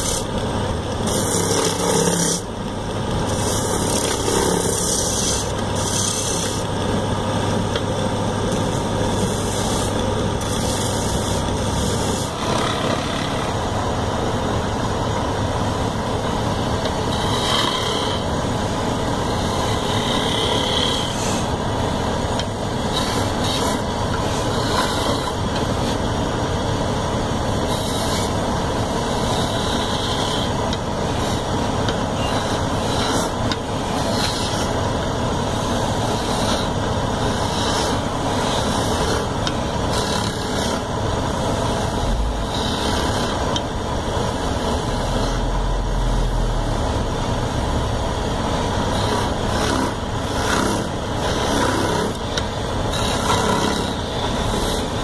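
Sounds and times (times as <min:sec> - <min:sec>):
chisel scraping spinning wood: 0:00.0 - 0:13.8, 0:16.8 - 0:21.6, 0:22.4 - 0:26.0, 0:27.6 - 0:34.8, 0:35.4 - 0:45.5, 0:48.8 - 0:55.0
wood lathe drone: 0:00.0 - 0:55.0.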